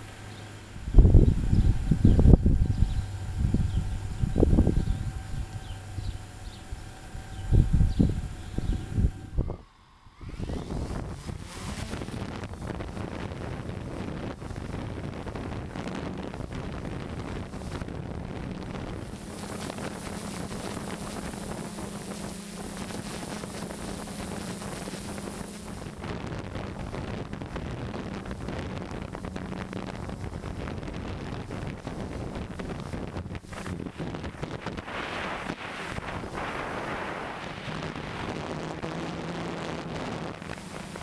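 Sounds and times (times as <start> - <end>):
high hiss: 0.0 - 13.2, 18.8 - 41.0
drone motors humming: 0.0 - 41.0
wind buffeting microphone: 0.3 - 9.6, 10.2 - 41.0.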